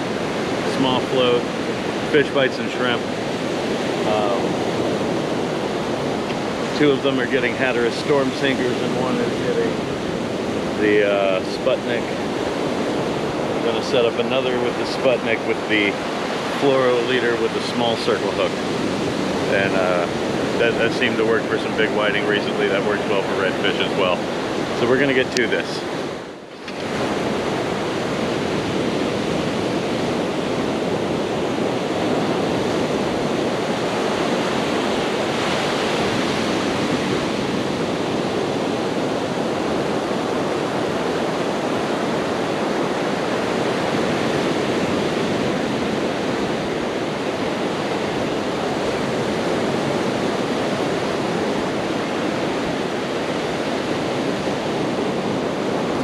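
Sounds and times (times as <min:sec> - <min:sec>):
ocean surf washing onto beach: 0:00.0 - 0:56.0.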